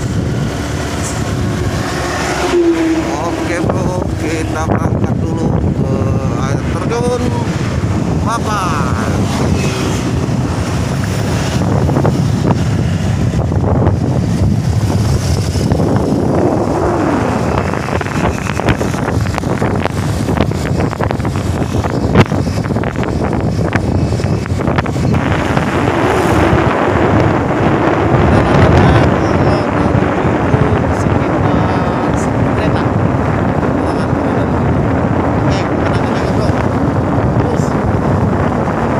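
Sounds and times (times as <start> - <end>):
motorcycle engine hum: 0.0 - 38.9
wind buffeting microphone: 0.0 - 38.9.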